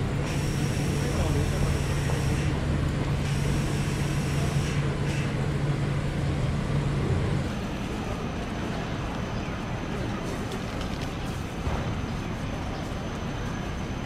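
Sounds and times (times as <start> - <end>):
idling engine hum: 0.0 - 11.5
street traffic noise: 0.0 - 14.0.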